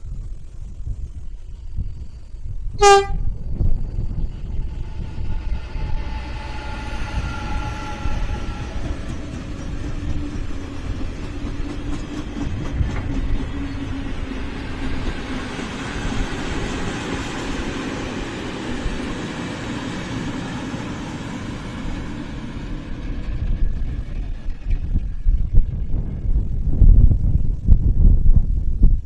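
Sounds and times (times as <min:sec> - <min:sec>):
locomotive high whine: 0:00.0 - 0:27.6
wheels rumbling on rail: 0:00.0 - 0:29.0.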